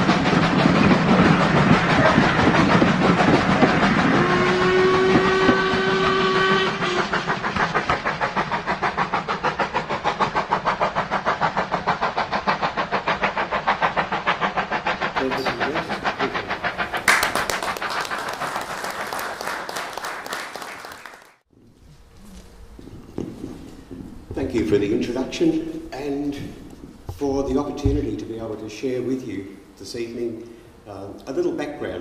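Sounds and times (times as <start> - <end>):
steam train running: 0.0 - 32.0.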